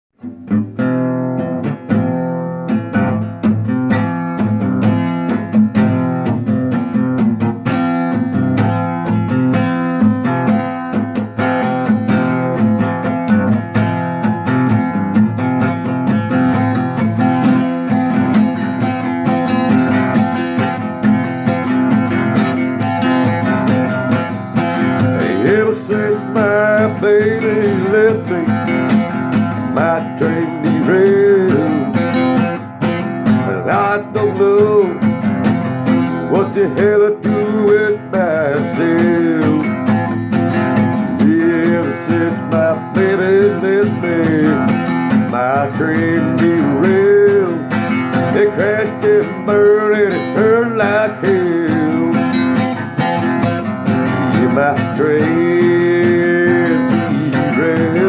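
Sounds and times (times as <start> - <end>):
acoustic guitar strumming: 0.2 - 58.0.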